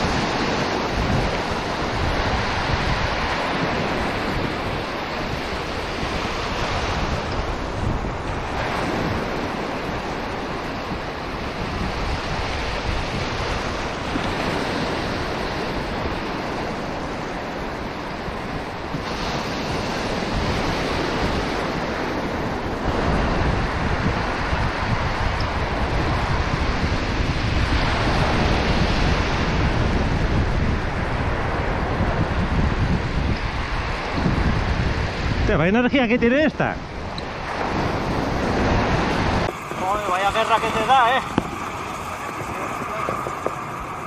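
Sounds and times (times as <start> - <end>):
surf breaking over sand: 0.0 - 44.0
wind buffeting microphone: 0.0 - 44.0.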